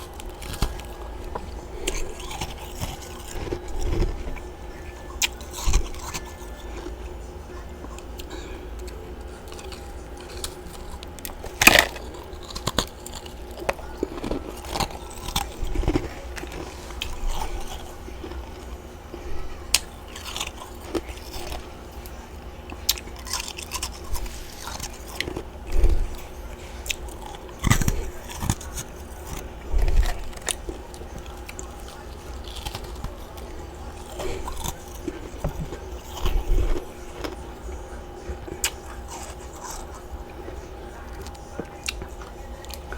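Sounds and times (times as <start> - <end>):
chewing frost crunches: 0.0 - 42.9.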